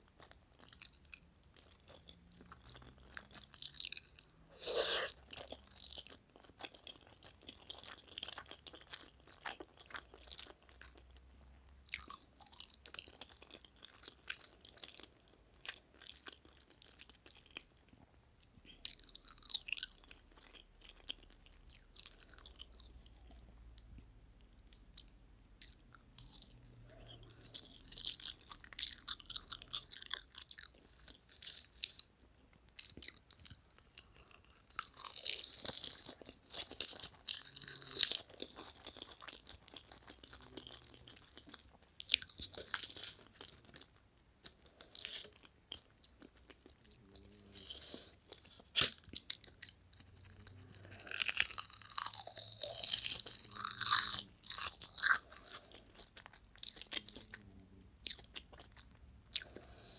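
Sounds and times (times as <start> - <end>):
crunchy chewing: 0.0 - 18.0, 18.6 - 32.1, 32.7 - 59.9.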